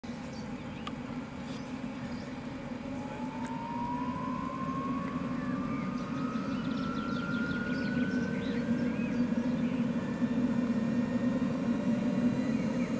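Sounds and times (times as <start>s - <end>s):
low hum: 0.1s - 12.9s
turbine whine spooling up: 0.4s - 12.9s.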